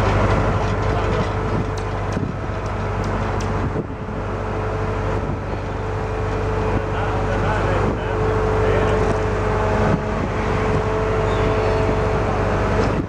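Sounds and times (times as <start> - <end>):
train engine hum: 0.0 - 13.0.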